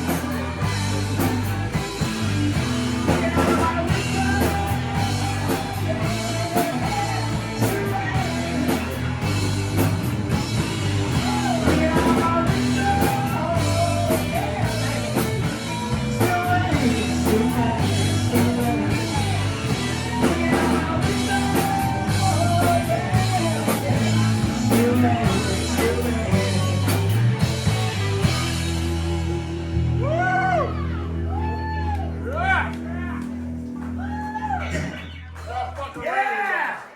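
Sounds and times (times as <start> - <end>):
drum kit beating: 0.0 - 34.9
rock band playing live: 0.0 - 35.6.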